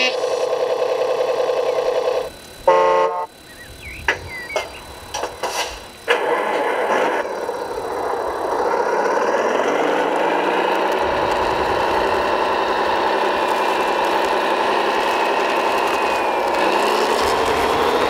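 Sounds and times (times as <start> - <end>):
simulated diesel engine: 0.0 - 18.0.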